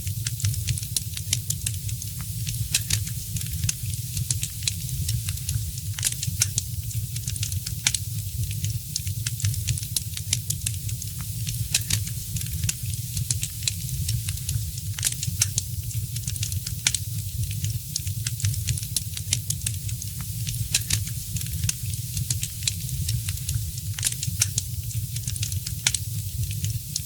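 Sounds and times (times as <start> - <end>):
wood fire crackling: 0.2 - 27.0.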